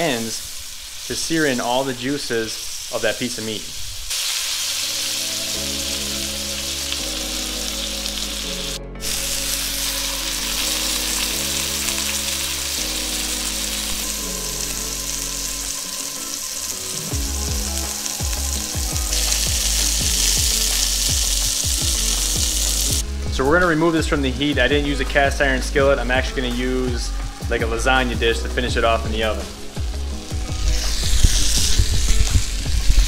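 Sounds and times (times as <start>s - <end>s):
meat sizzling in a frying pan: 0.0s - 23.0s, 29.2s - 33.0s
background music with held chords: 4.8s - 33.0s.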